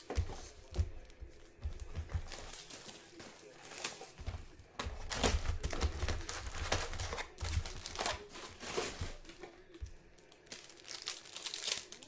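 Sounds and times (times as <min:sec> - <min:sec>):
soft handling knocks: 0:00.0 - 0:10.0
plastic wrapping crinkling and tearing: 0:00.0 - 0:12.0.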